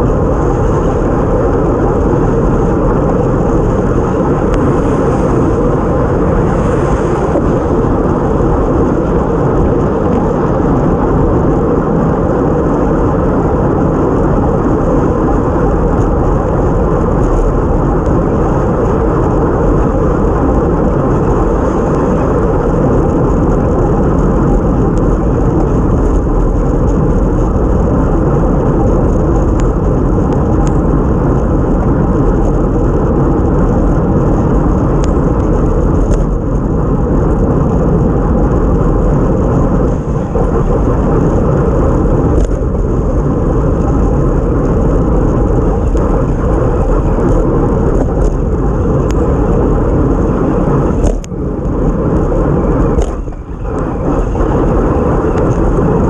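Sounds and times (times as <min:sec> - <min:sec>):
tyre noise on wet road: 0:00.0 - 0:56.0
wind rushing over microphone: 0:00.0 - 0:56.0.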